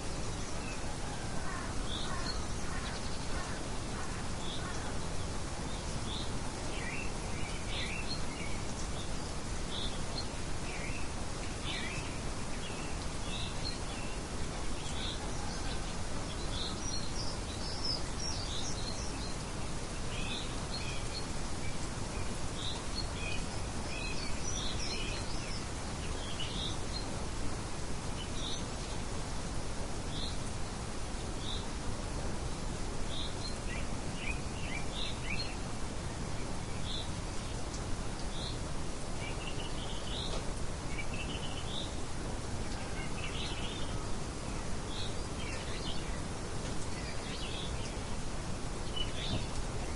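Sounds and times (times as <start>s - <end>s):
outdoor background hiss: 0.0s - 49.9s
songbirds chirping: 0.0s - 49.9s.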